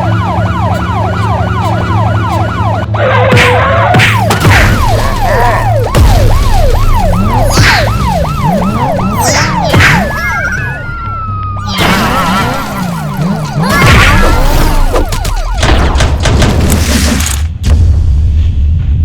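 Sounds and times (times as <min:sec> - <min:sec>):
emergency siren yelping: 0:00.0 - 0:16.2.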